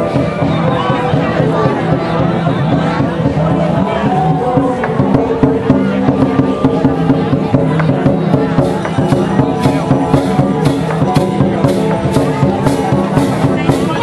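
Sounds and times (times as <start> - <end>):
drum or cymbal strikes: 0.0 - 14.0.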